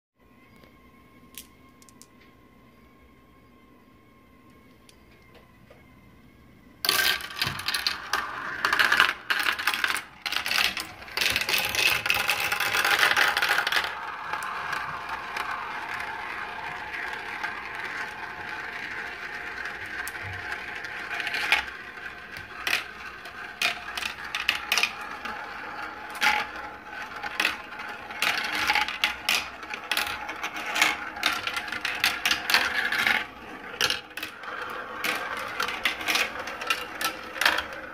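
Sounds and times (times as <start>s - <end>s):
marbles clicking: 6.8s - 37.9s
marbles rolling in plastic track: 6.8s - 37.9s.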